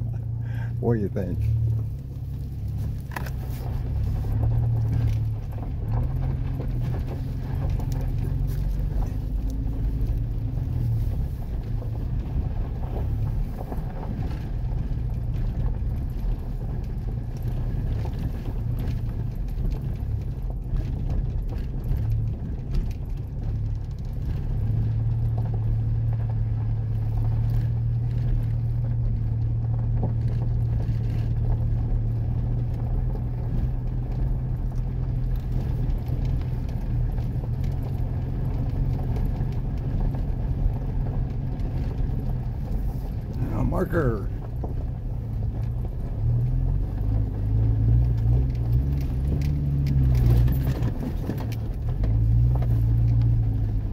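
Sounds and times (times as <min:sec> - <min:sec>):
vehicle engine and tyre drone: 0:00.0 - 0:53.9.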